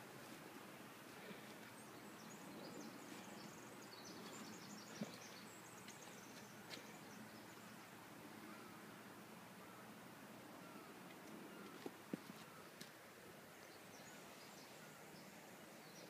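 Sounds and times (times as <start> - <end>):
distant birdsong: 0.0 - 16.0.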